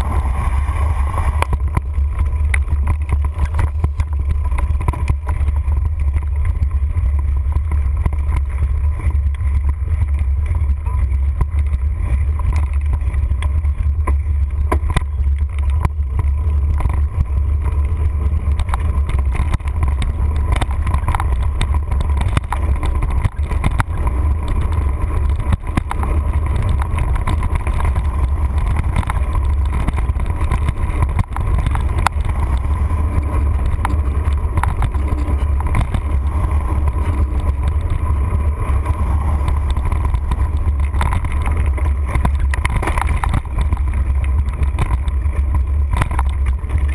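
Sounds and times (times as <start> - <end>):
bike clicking and rattling: 0.0 - 46.9
wind and trail vibration rumble: 0.0 - 46.9.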